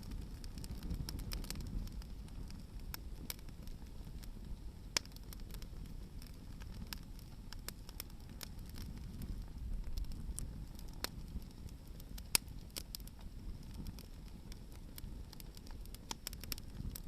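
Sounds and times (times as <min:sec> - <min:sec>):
campfire crackling and popping: 0:00.0 - 0:17.0
low steady rumble of fire: 0:00.0 - 0:17.0.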